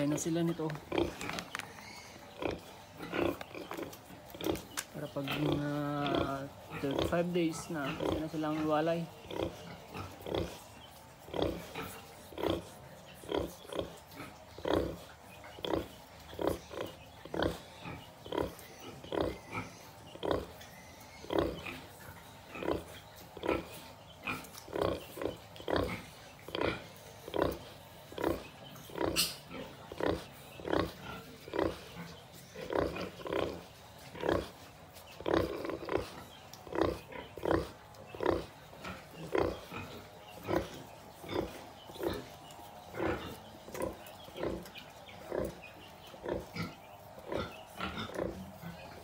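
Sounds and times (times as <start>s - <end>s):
sow grunting: 0.0s - 49.0s.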